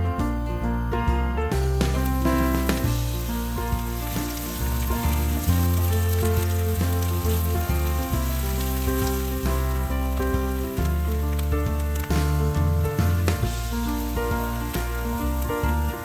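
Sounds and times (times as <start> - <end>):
background music with bass line: 0.0 - 16.0
onion sizzling in oil: 1.8 - 16.0.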